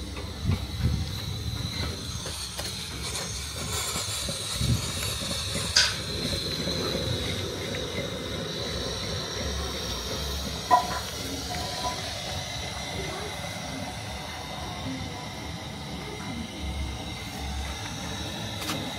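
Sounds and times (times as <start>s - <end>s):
steady hissing: 0.0s - 18.9s.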